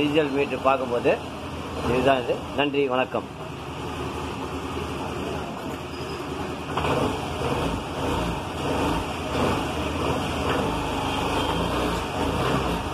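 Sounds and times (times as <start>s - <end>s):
vehicle engine rumble with hiss: 0.0s - 12.9s.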